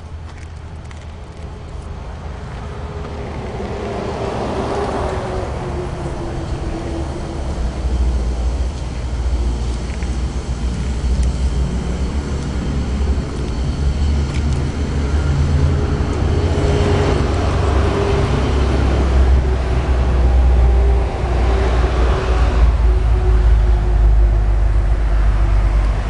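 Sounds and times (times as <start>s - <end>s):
steady low rumble: 0.0s - 26.0s
vehicle passing: 0.8s - 26.0s.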